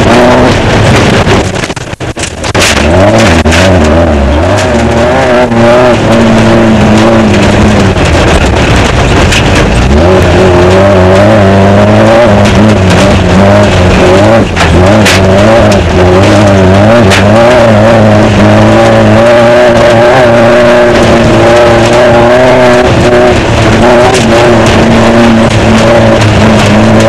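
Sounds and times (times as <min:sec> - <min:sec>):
knocks and rattles: 0:00.0 - 0:27.0
race car engine revving: 0:00.0 - 0:27.0.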